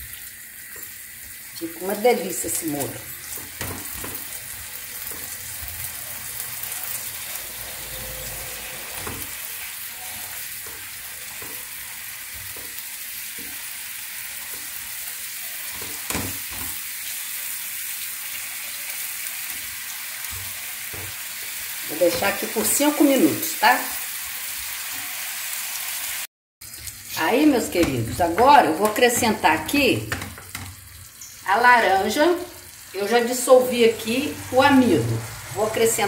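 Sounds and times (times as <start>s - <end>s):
chicken sizzling in frying pan: 0.0s - 36.0s.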